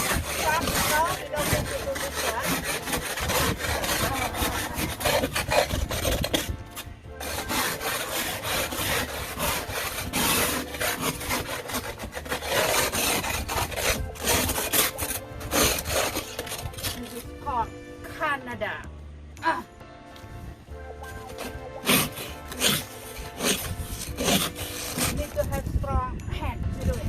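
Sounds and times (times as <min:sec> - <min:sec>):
tool scraping packed snow: 0:00.0 - 0:18.3, 0:20.9 - 0:25.7.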